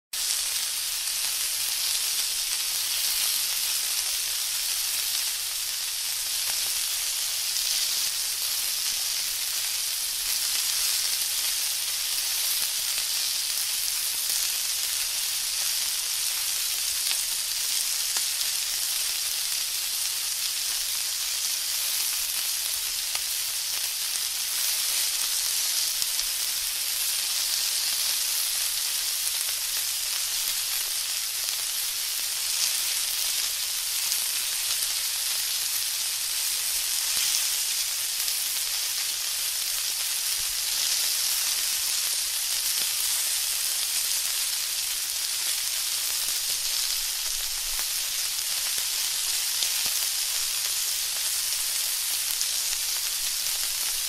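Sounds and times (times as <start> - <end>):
food sizzling in a hot pan: 0.2 - 54.0.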